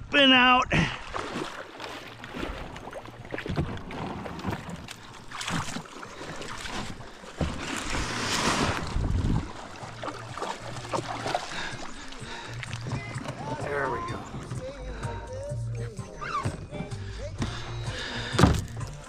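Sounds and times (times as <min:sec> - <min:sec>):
water sloshing: 0:00.8 - 0:15.2, 0:15.9 - 0:19.0
kayak scraping ashore: 0:01.0 - 0:15.1, 0:15.8 - 0:19.0
kayak knocking: 0:01.1 - 0:19.0.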